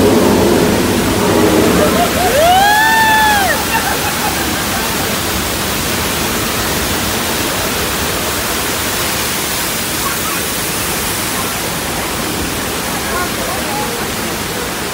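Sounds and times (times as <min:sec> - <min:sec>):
water rushing loudly: 0:00.0 - 0:14.9.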